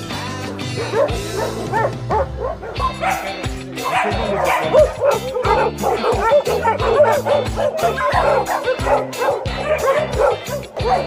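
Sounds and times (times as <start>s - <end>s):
background music with a beat: 0.0s - 11.0s
dogs barking and yipping: 0.4s - 11.0s.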